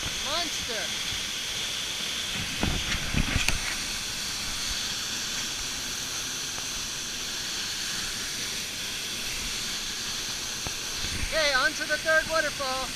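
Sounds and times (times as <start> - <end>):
waterfall rushing: 1.5 - 12.9.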